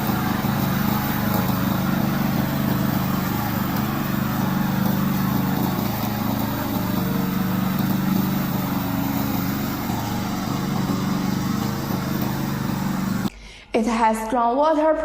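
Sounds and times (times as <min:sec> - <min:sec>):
lawn mower engine running: 0:00.0 - 0:13.3.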